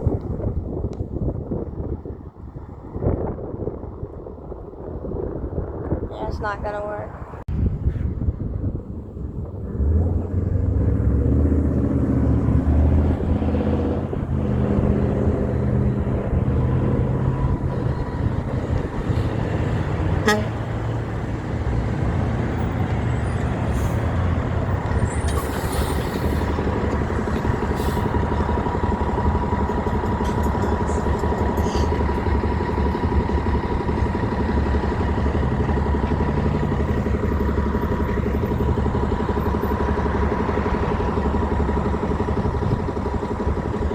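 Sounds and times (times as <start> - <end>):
heavy truck engines droning: 0.0 - 43.9.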